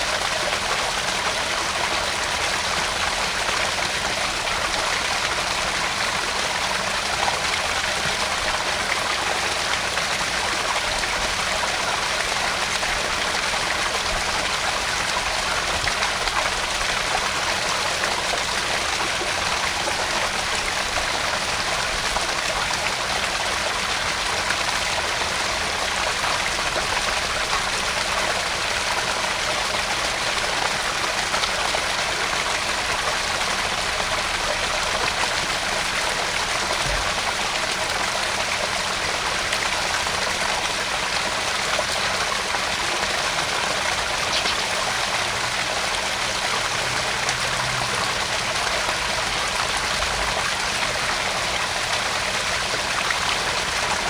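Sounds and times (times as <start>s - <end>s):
waterfall splashing into pond: 0.0s - 54.0s.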